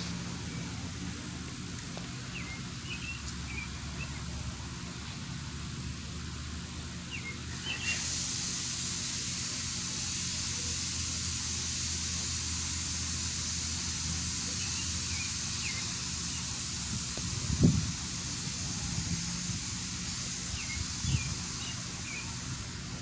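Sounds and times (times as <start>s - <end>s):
industrial grinding hiss: 0.0s - 23.0s
low machinery hum: 0.0s - 23.0s.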